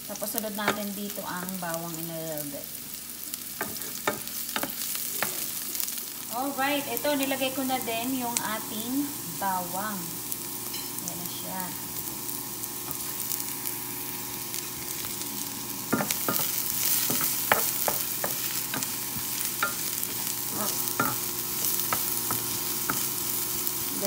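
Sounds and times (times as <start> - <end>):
onion and garlic sizzling in oil: 0.0 - 24.0.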